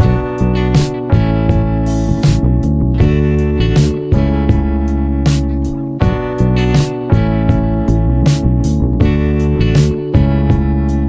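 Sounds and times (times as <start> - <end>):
guitar music over steady beat: 0.0 - 11.0.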